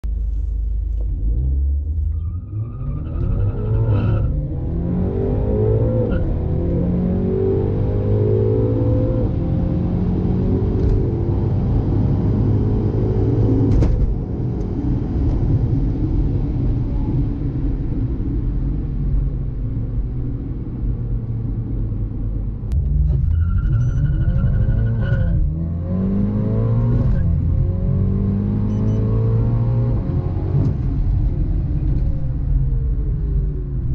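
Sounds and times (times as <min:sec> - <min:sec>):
car engine accelerating: 0:00.0 - 0:19.0, 0:21.0 - 0:33.9
low road rumble: 0:00.0 - 0:33.9.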